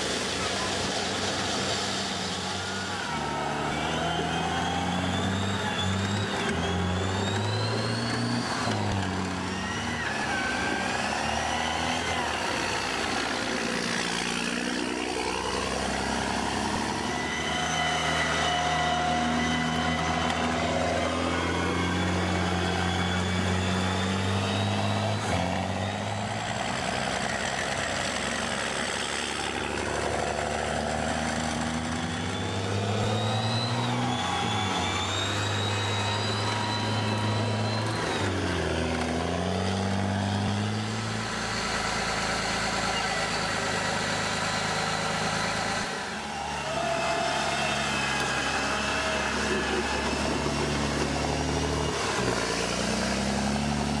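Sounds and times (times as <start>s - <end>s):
high whining squeals: 0.0s - 54.0s
tracked vehicle engines: 0.0s - 54.0s.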